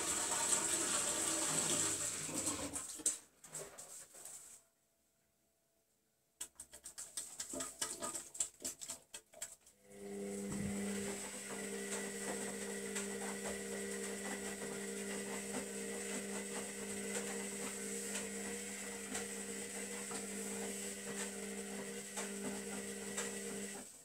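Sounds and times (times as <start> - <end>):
washing machine drain pump humming: 0.0 - 3.0, 6.9 - 24.0.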